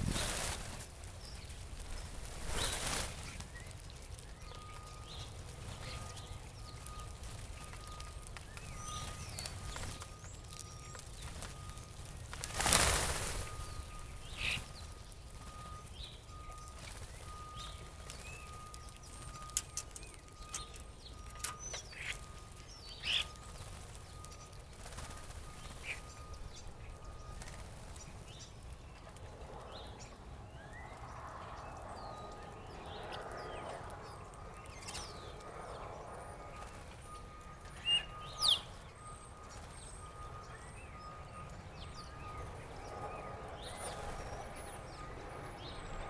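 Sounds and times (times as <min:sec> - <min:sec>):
blackbirds chirping: 0:00.0 - 0:46.0
mixed bird chatter: 0:00.1 - 0:46.0
faint steady high tone: 0:01.4 - 0:29.2, 0:29.9 - 0:46.0.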